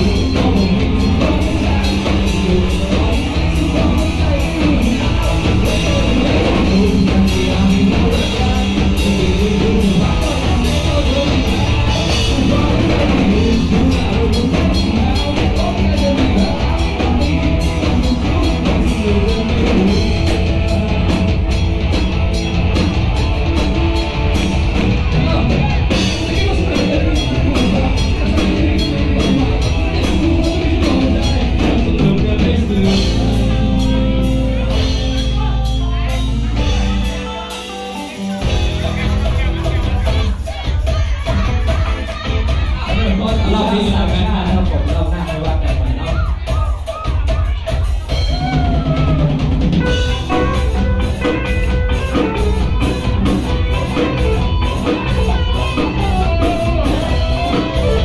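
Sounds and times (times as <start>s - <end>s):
bass guitar: 0.0s - 58.0s
drum kit beat: 0.0s - 58.0s
electric guitars: 0.0s - 58.0s.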